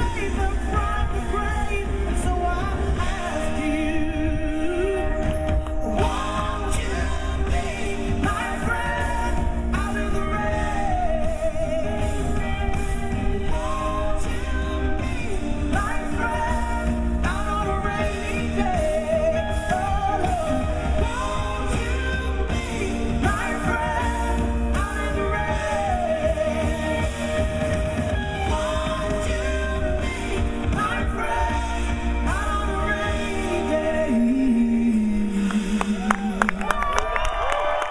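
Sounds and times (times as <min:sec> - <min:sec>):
woman singing: 0:00.0 - 0:36.8
electric guitar and band: 0:00.0 - 0:37.9.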